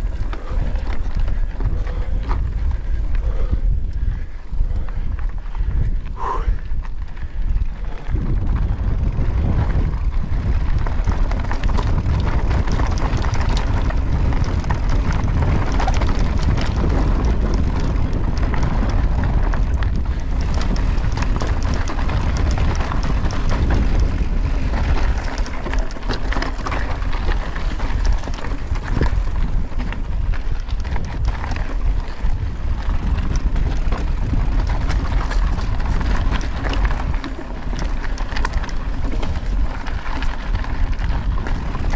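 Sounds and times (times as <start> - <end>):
bike tyres clicking and rattling: 0.0 - 41.9
wind rushing over microphone: 0.0 - 41.9.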